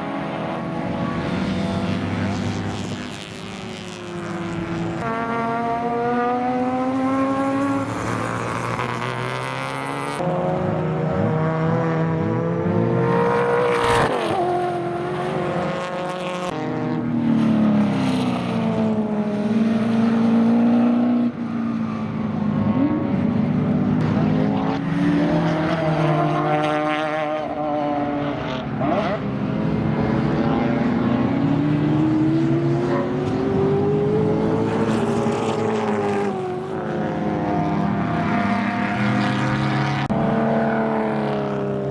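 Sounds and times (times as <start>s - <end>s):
race car engines: 0.0s - 41.9s
race car passing close: 0.0s - 41.9s.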